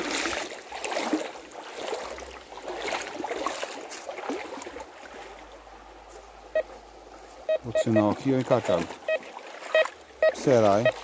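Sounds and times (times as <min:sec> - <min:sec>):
water splashing around wading feet: 0:00.0 - 0:11.0.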